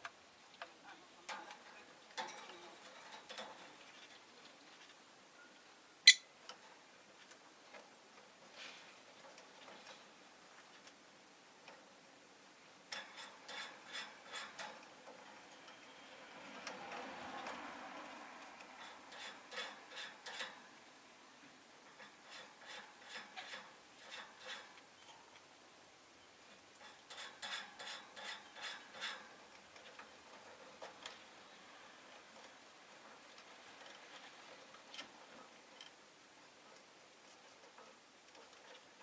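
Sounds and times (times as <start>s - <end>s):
faint background noise: 0.0s - 39.0s.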